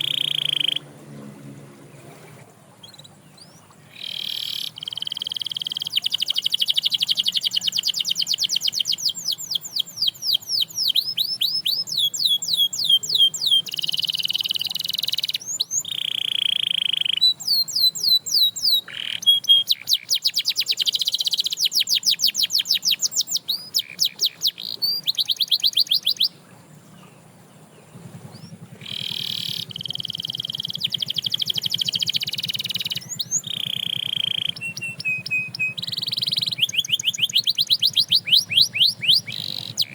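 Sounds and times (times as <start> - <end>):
canary singing trills: 0.0 - 0.9, 2.7 - 39.9.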